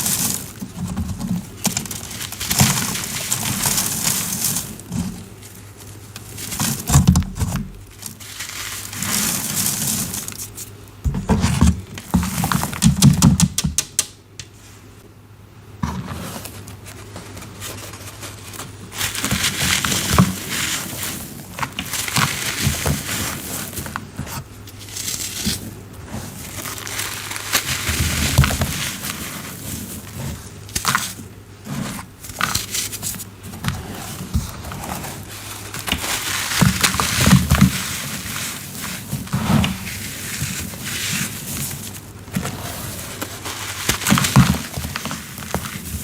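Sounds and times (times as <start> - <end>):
cornstarch crunching and crackling: 0.0 - 13.4, 15.9 - 46.0.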